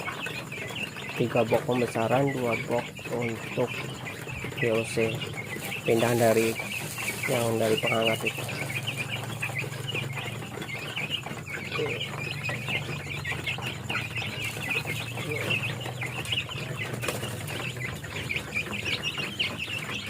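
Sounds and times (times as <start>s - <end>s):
chicks peeping: 0.0s - 20.0s
steady low hum: 0.0s - 20.0s.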